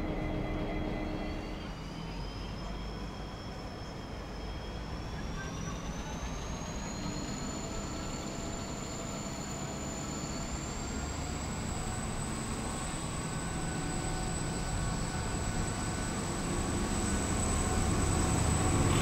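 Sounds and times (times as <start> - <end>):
train rumbling with high whine: 0.0 - 19.0.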